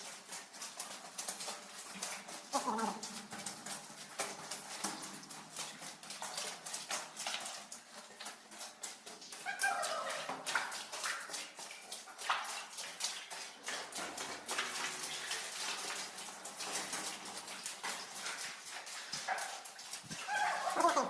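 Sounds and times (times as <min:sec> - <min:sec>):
footsteps squelching through mud: 0:00.0 - 0:21.0.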